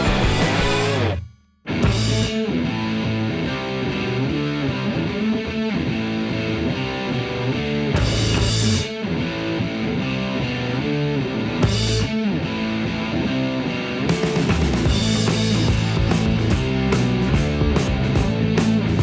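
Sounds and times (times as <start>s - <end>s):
electric guitar music: 0.0s - 19.0s.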